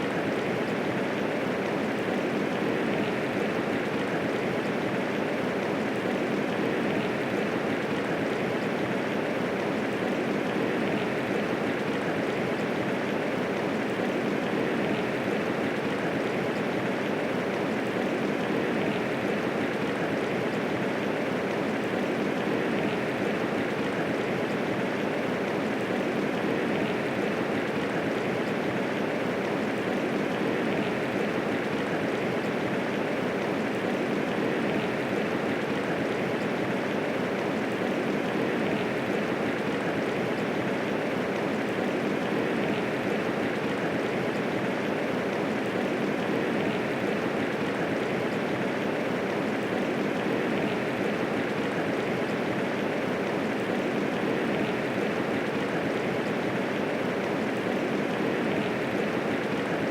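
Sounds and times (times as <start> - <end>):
steady rainfall hiss: 0.0 - 59.9.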